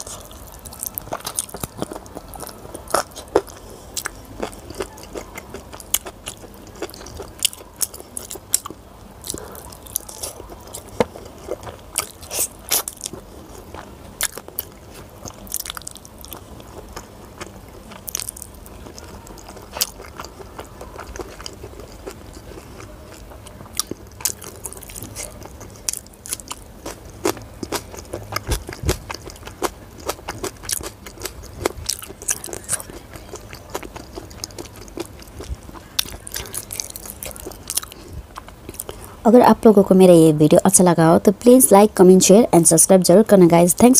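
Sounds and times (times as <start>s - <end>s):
wet chewing and mouth smacks: 0.0s - 39.2s.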